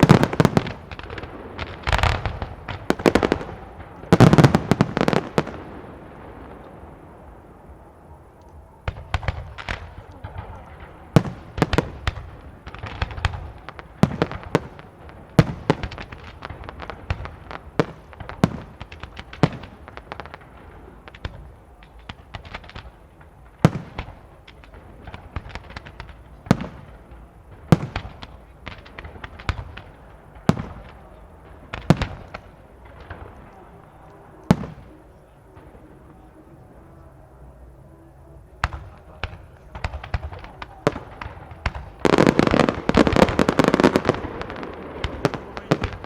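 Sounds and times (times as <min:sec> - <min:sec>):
low rumble and crackle: 0:00.0 - 0:46.0.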